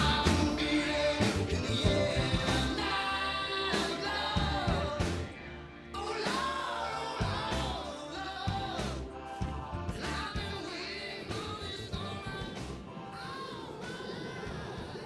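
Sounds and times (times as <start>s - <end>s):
rock pop song with singing: 0.0s - 15.0s.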